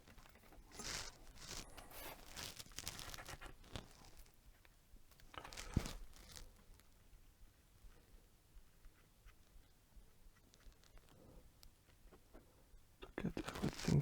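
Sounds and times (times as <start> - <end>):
scratching and crackling on wires: 0.0 - 7.1, 9.3 - 14.0.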